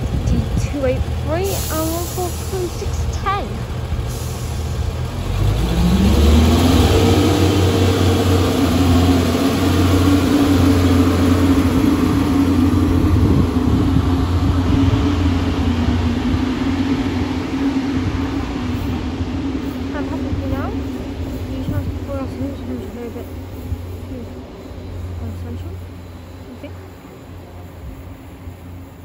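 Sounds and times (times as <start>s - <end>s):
diesel train engines revving: 0.0s - 29.0s.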